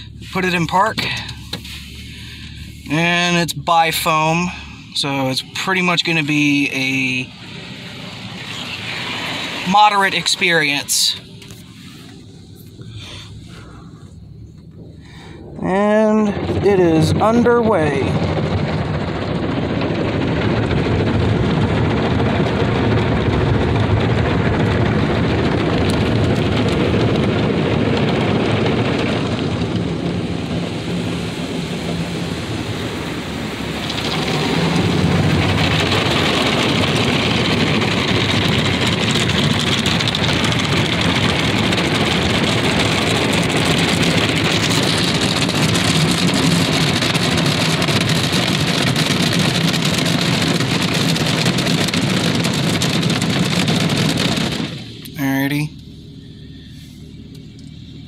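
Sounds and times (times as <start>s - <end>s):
car wash water spray: 0.0s - 58.0s.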